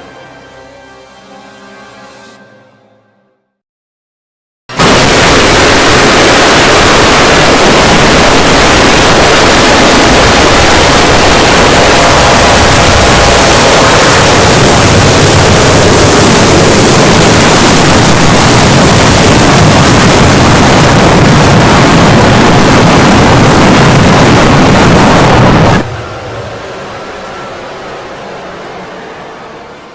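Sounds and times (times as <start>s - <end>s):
harsh distorted noise burst: 4.7s - 29.9s.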